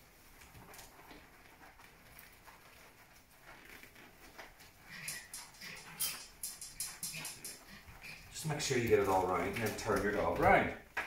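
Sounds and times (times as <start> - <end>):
hands rubbing wet dog fur: 0.0 - 10.7.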